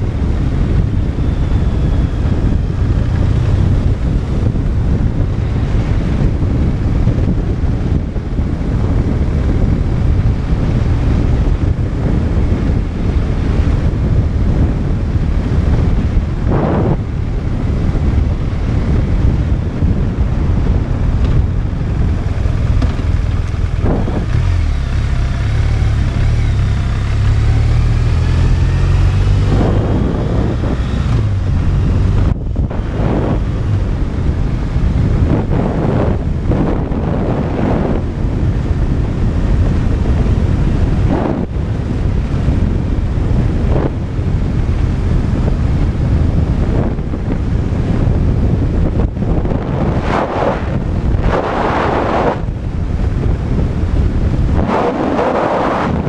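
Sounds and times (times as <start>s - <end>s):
motorcycle engine: 0.0s - 56.0s
wind buffeting microphone: 0.0s - 56.0s.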